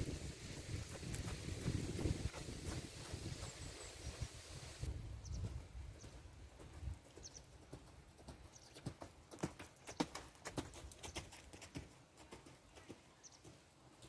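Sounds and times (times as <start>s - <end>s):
horse hoofbeats cantering on sand: 0.0s - 14.0s.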